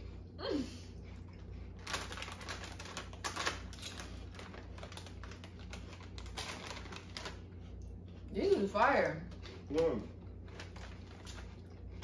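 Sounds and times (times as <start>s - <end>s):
plastic chip bag crinkling: 1.6s - 12.0s.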